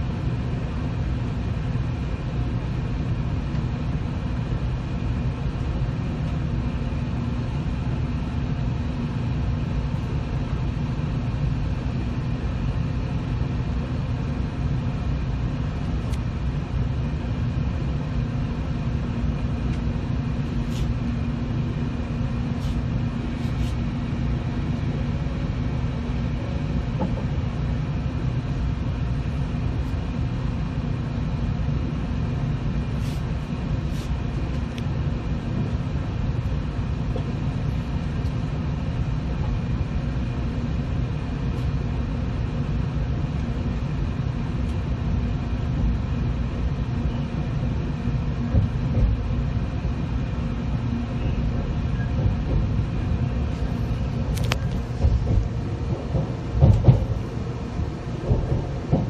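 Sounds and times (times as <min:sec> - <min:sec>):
train interior hum and rumble: 0:00.0 - 0:59.0.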